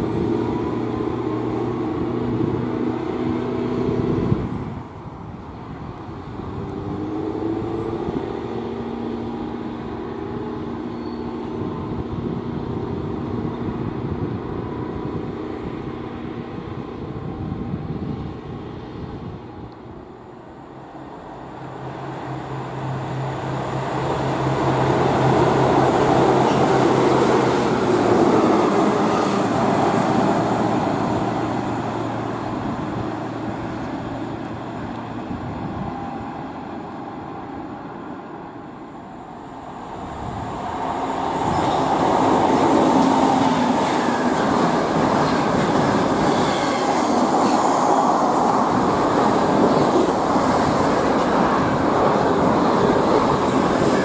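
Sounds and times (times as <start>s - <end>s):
train passing with rushing rumble: 0.0s - 54.0s.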